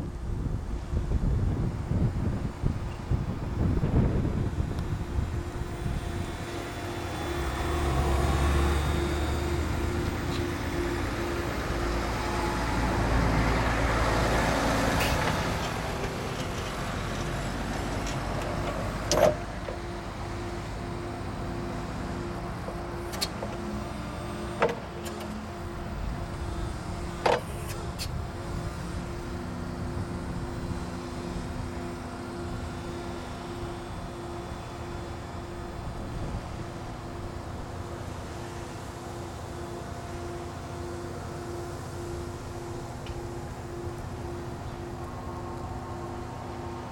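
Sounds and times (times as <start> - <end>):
electric forklift humming: 0.0 - 46.9.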